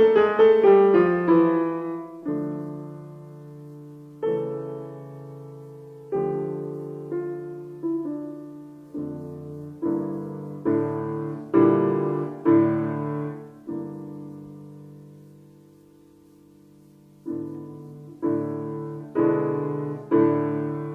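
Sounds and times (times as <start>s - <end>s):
slow piano chords: 0.0s - 20.9s.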